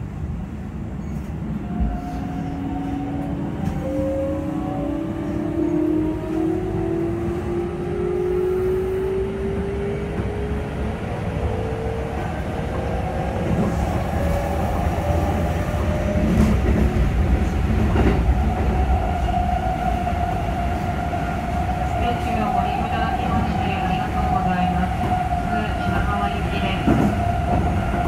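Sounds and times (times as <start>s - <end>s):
train wheels rumbling on rails: 0.8s - 28.0s.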